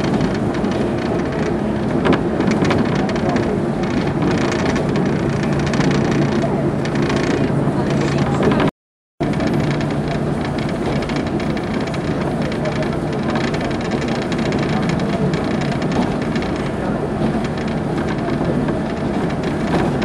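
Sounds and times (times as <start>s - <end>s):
train car body rumbling: 0.0s - 20.0s
train wheels rolling on rails: 0.0s - 20.0s.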